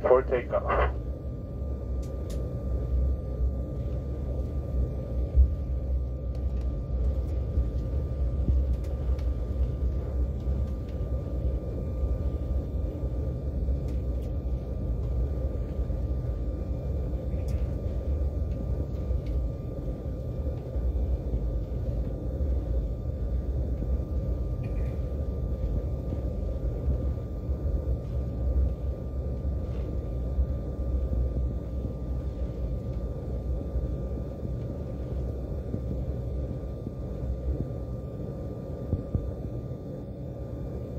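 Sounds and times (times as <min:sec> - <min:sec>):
low rumble of jet engines: 0:00.0 - 0:40.9
thin steady whine: 0:00.0 - 0:40.9.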